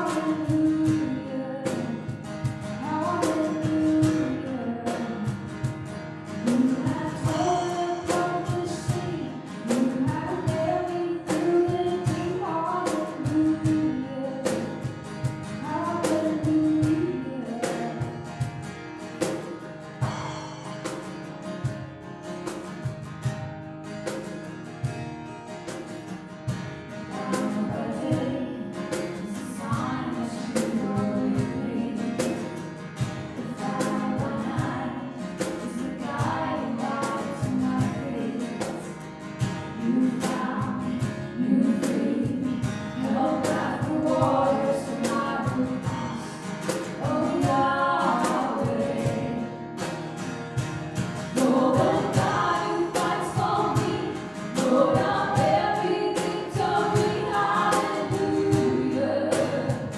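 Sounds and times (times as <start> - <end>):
women singing: 0.0 - 5.8, 6.4 - 18.4, 27.0 - 49.7, 51.3 - 59.9
cajon beat: 0.0 - 59.9
strummed acoustic guitar: 0.0 - 59.9.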